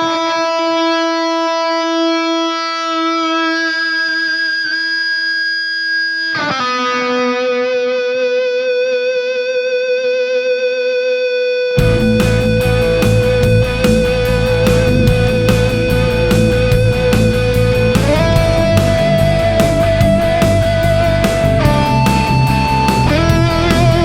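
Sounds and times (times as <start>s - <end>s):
electric guitar sustained notes: 0.0s - 24.0s.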